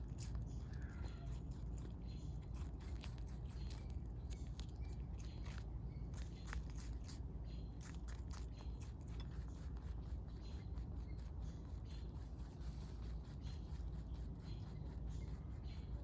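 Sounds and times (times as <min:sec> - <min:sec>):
rabbit chewing: 0:00.0 - 0:16.0
steady low hum: 0:00.0 - 0:16.0.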